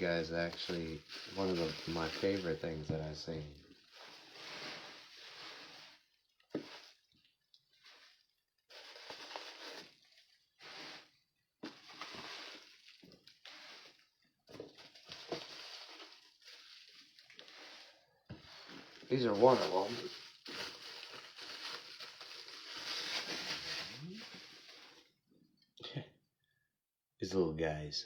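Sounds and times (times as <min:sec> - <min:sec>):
packing material crinkling: 0:00.0 - 0:25.1.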